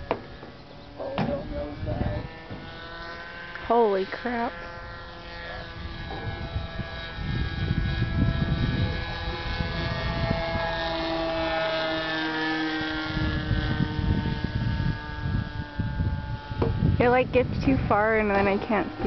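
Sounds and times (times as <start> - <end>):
model jet motor whining: 0.0 - 19.0.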